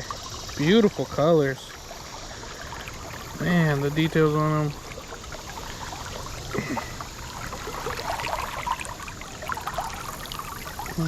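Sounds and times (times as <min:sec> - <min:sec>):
creek water babbling: 0:00.0 - 0:11.0.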